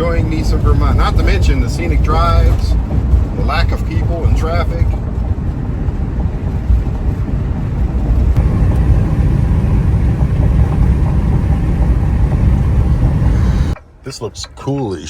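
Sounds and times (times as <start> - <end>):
van driving road rumble: 0.0 - 15.0.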